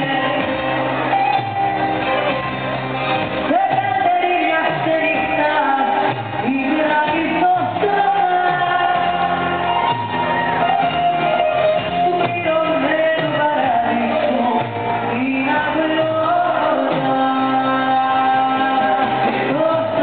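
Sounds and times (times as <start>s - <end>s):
woman singing: 0.0s - 2.1s, 3.2s - 11.0s, 11.6s - 20.0s
band with bouzouki playing: 0.0s - 20.0s.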